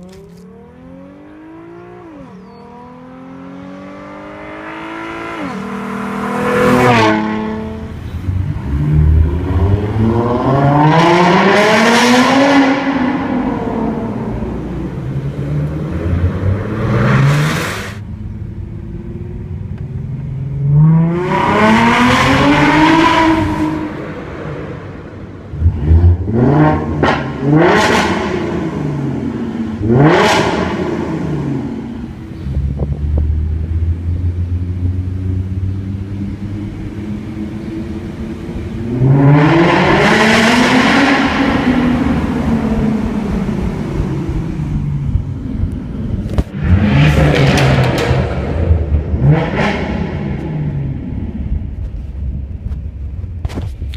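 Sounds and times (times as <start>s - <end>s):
car engine revving: 0.0s - 18.0s, 20.5s - 24.9s, 25.5s - 52.1s.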